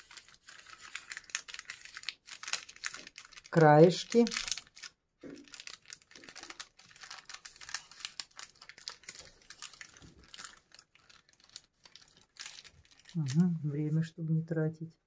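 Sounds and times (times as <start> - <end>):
parchment paper crinkling: 0.0 - 14.2.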